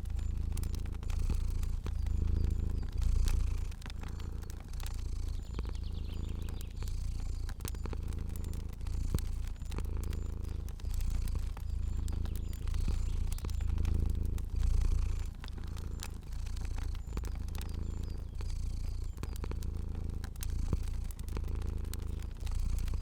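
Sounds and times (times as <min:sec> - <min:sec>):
cat purring: 0:00.0 - 0:23.0
fire crackling: 0:00.0 - 0:23.0.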